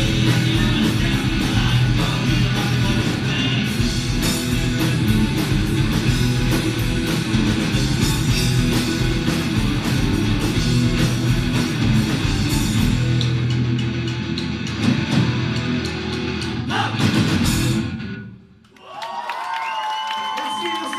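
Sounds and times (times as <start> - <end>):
live rock band playing: 0.0 - 18.4.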